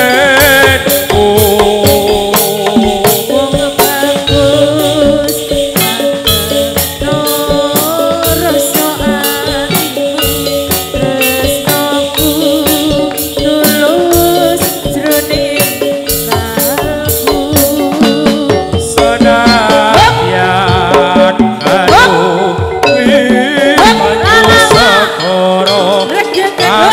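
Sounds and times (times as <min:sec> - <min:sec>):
drums on a steady beat: 0:00.0 - 0:26.9
wavering melody: 0:00.0 - 0:26.9.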